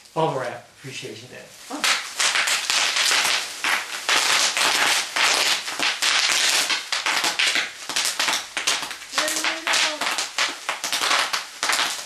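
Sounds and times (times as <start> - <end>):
bubble wrap popping: 1.6 - 12.0.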